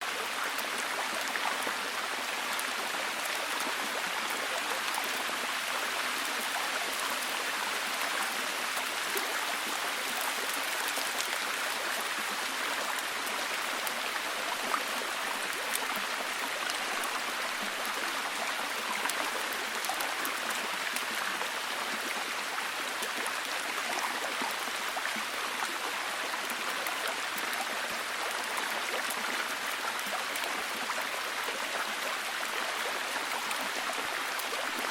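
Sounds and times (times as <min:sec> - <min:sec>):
stream running: 0:00.0 - 0:34.9
rain pattering: 0:00.1 - 0:31.4.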